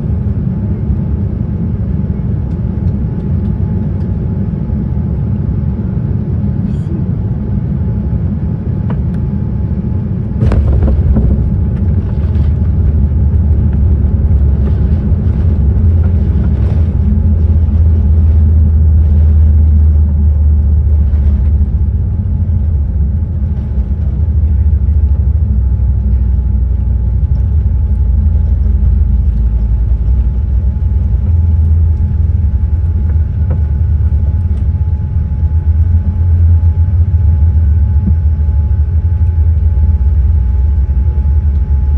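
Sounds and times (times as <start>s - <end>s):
airliner cabin rumble: 0.0s - 41.9s
faint steady whine: 0.0s - 41.9s.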